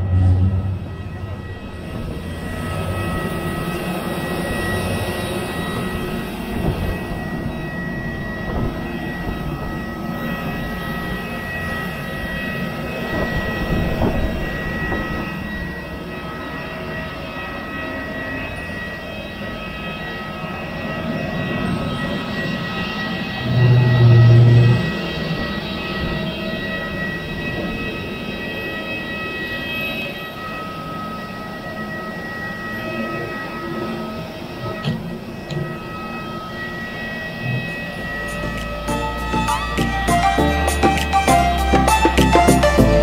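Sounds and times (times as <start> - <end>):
jet airliner engine whine: 0.0 - 43.0.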